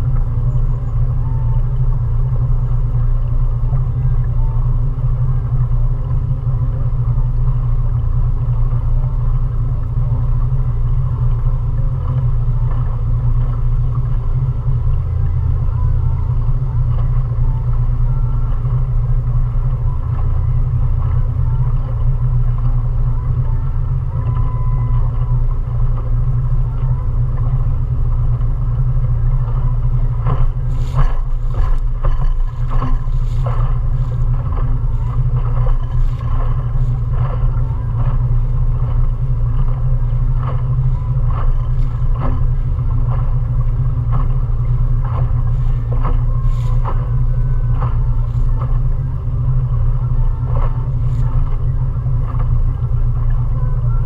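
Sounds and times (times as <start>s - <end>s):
outboard motor rumbling: 0.0s - 54.0s.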